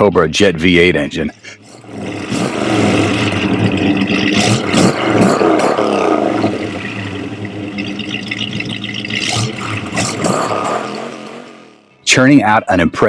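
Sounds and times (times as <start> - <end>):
car engine revving: 1.4 - 12.1.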